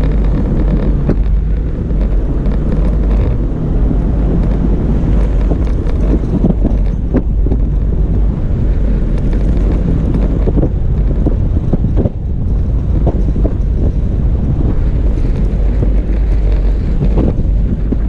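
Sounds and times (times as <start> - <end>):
vehicle engine rumble: 0.0 - 18.0
vehicle thumps over rough track: 0.0 - 18.0
wind buffeting microphone: 0.0 - 18.0.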